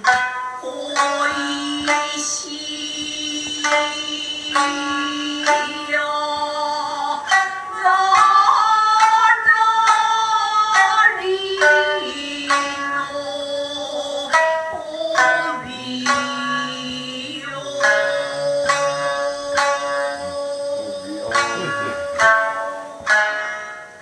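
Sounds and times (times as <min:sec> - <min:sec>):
plucked shamisen notes: 0:00.0 - 0:24.0
woman singing long phrases: 0:00.7 - 0:22.3.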